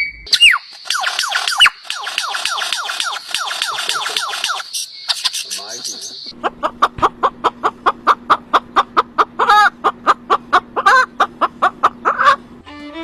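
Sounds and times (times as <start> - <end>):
bird clucking: 0.4 - 12.5.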